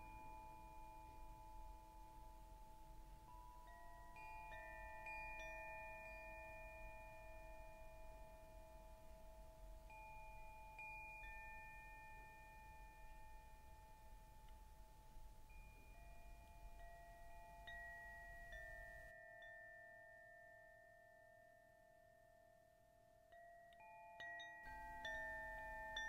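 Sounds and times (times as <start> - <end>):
soft chime-like meditation music: 0.0 - 26.0.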